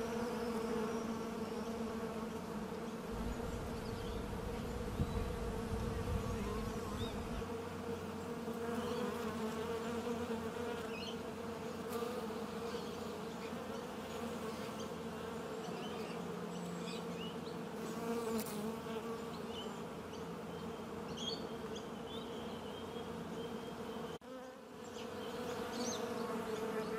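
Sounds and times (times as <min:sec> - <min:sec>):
bees buzzing: 0:00.0 - 0:26.9.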